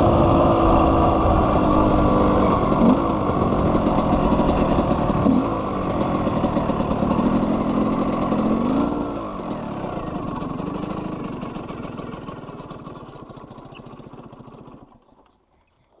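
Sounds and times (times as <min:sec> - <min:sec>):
two-stroke engine running: 0:00.0 - 0:15.2.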